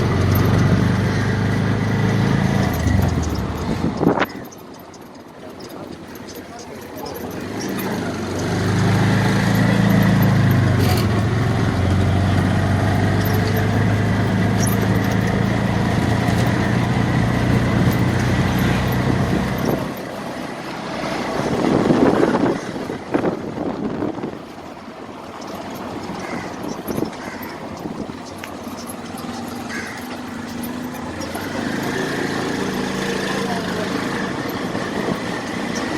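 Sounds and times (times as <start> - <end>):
motor engine humming: 0.0 - 35.9.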